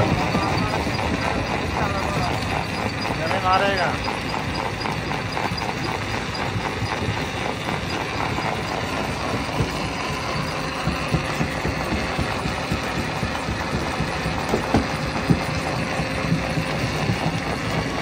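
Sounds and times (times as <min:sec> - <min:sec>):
rock crusher engine running: 0:00.0 - 0:18.0.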